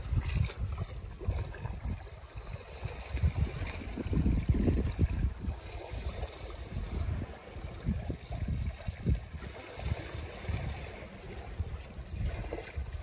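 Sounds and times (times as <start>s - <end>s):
water washing along boat hull: 0.0s - 13.0s
wind buffeting microphone: 0.0s - 13.0s.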